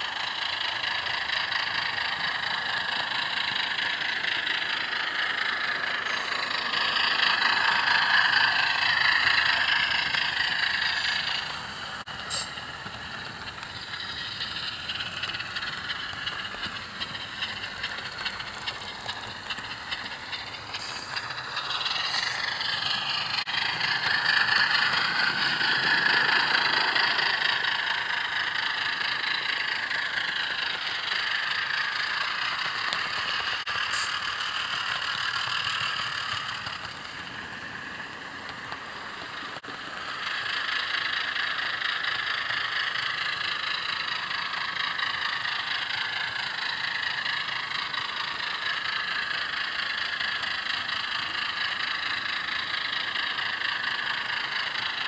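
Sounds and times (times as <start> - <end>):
diesel engine sound from small speaker: 0.0 - 55.0.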